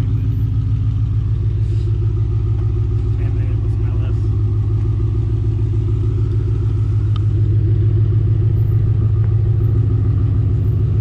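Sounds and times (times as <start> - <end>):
car engine exhaust rumble: 0.0 - 11.0.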